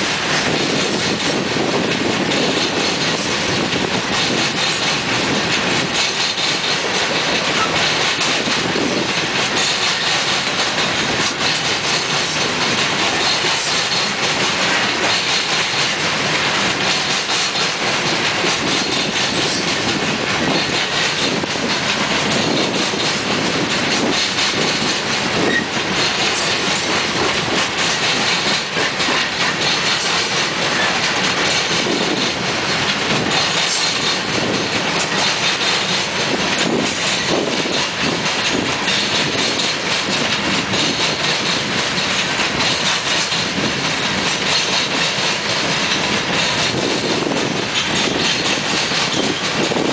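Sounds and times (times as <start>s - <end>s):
clickety-clack over rail joints: 0.0s - 49.9s
train wheels rumbling and rattling: 0.0s - 49.9s.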